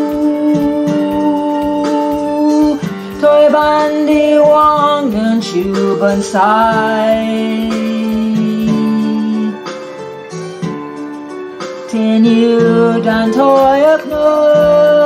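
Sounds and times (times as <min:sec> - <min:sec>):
person singing: 0:00.0 - 0:10.3, 0:11.8 - 0:15.0
guitar accompaniment: 0:00.0 - 0:15.0.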